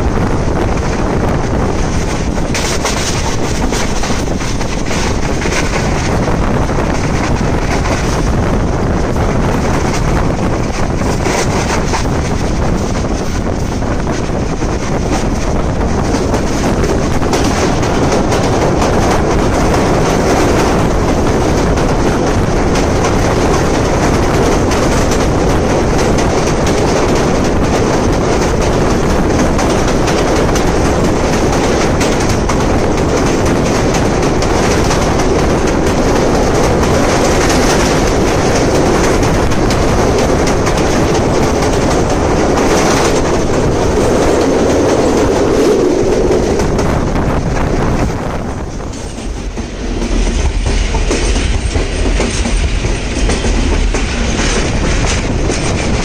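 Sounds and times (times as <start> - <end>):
train wheels rumbling on bridge: 0.0 - 56.0.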